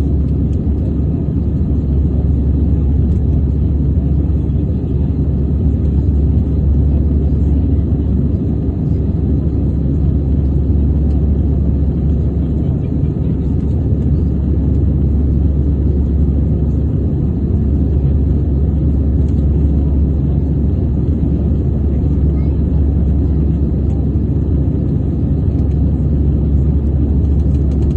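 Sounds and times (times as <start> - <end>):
airliner engines rumbling: 0.0 - 27.9.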